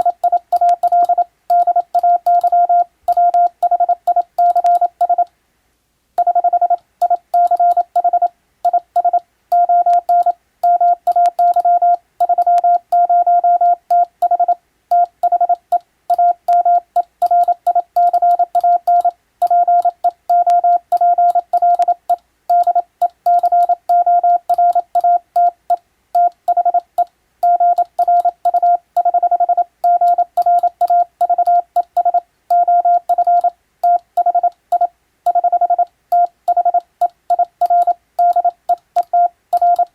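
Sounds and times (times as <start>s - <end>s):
morse code beeps: 0.0s - 5.2s, 6.2s - 25.6s, 26.2s - 39.9s.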